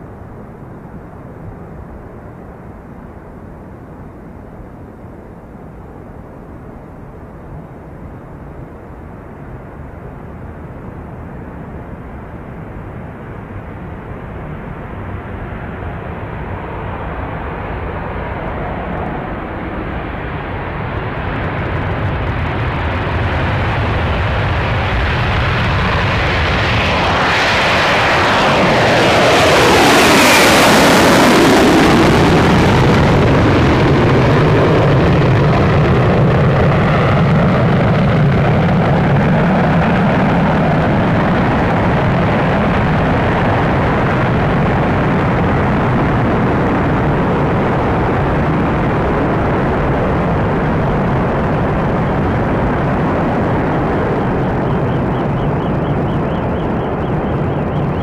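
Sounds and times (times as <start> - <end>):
jet engines roaring on takeoff: 0.0 - 58.0.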